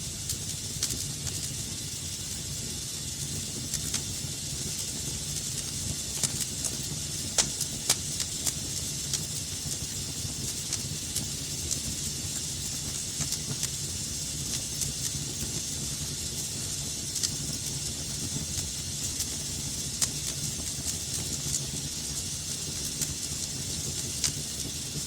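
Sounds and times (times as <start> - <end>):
fire crackles and pops: 0.0 - 25.0
fire hissing with low rumble: 0.0 - 25.0.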